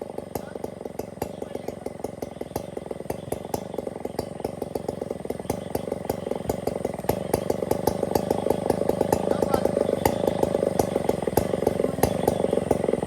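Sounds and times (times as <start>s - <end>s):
chainsaw engine idling: 0.0s - 13.0s.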